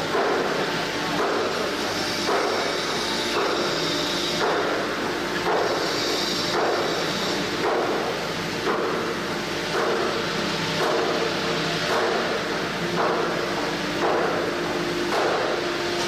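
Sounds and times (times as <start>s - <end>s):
rough machining noise: 0.0s - 16.0s.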